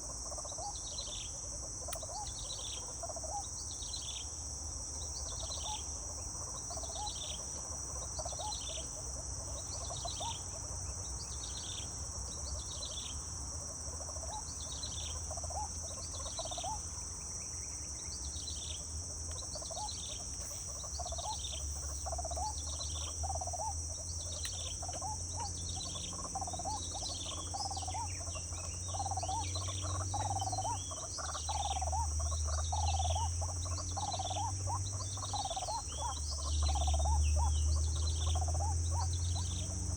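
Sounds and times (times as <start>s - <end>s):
falling insect chirps: 0.0s - 39.9s
insects buzzing: 0.0s - 39.9s
lower insect calls: 0.0s - 39.9s.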